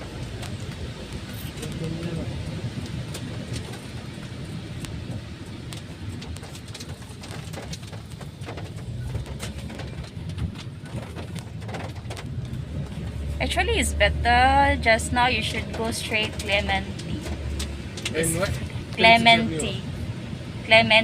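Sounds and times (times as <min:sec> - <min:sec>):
car road and engine rumble: 0:00.0 - 0:21.0
light rain taps: 0:00.0 - 0:21.0.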